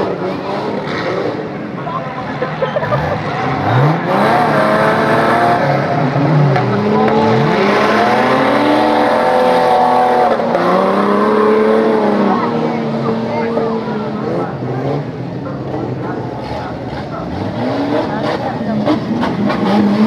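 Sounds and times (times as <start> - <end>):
off-road engines revving hard: 0.0 - 20.0.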